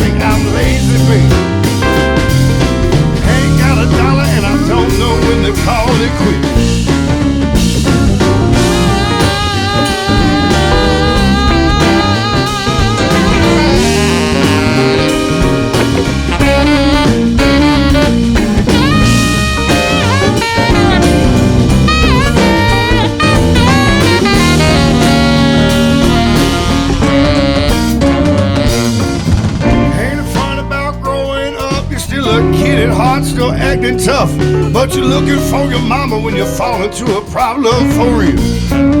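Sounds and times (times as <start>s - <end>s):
lead instrument solo with bending notes: 0.0s - 36.9s
live rock band playing: 0.0s - 39.0s.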